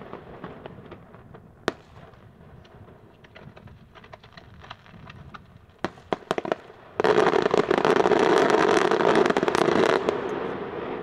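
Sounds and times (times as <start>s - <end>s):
crackling firework barrage: 0.0s - 11.0s
firework bangs: 0.0s - 11.0s.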